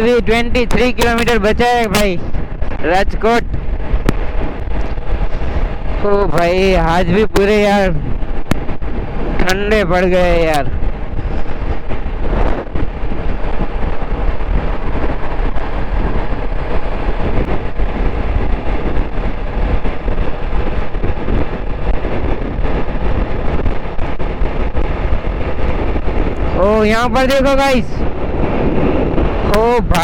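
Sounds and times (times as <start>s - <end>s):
motorcycle engine at speed: 0.0s - 30.0s
road noise: 0.0s - 30.0s
wind rumble on microphone: 0.0s - 30.0s.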